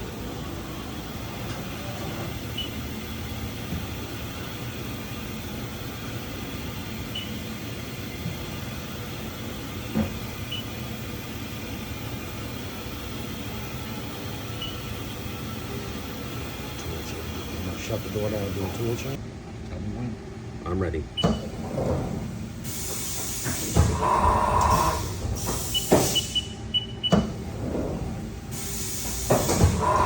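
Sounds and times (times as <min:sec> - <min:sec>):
machining center humming: 0:00.0 - 0:30.0.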